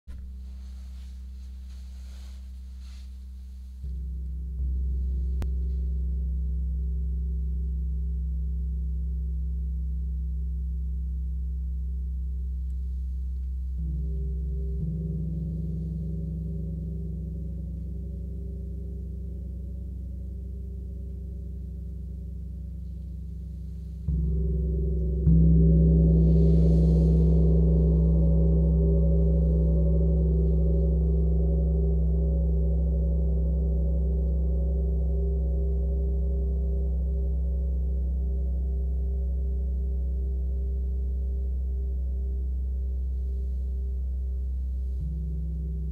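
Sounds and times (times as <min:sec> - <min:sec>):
soft mallet strokes on gong: 0:00.1 - 0:08.0, 0:12.5 - 0:45.9.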